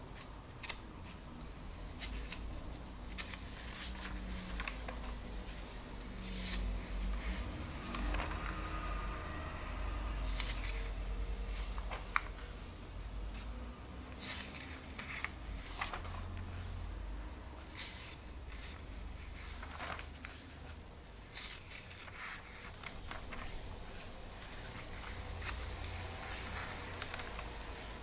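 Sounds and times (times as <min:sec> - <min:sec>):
glossy pages turning: 0:00.2 - 0:00.8, 0:01.7 - 0:12.7, 0:14.1 - 0:16.9, 0:17.6 - 0:28.0.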